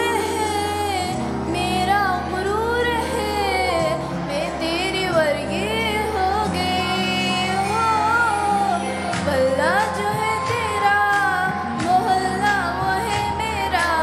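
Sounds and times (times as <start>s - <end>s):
girl singing into a microphone: 0.0s - 14.0s.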